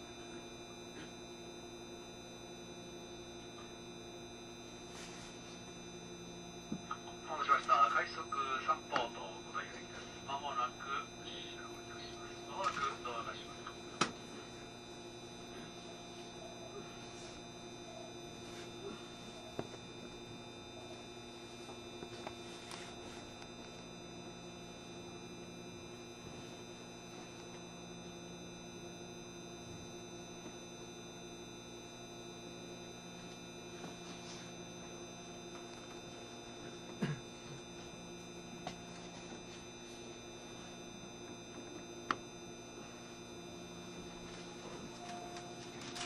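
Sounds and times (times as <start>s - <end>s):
electric train equipment hum: 0.0s - 46.0s.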